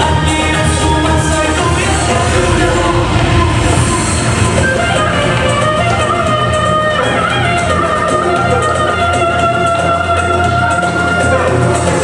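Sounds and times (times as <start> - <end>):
loud music: 0.0 - 12.0
person singing: 0.0 - 12.0.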